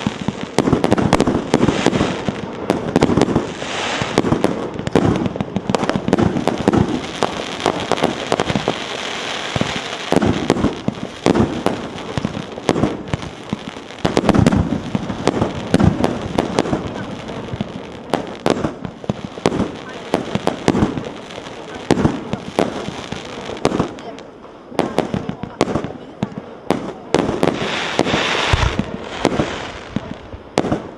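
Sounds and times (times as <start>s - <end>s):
firework cake firing: 0.0s - 30.9s.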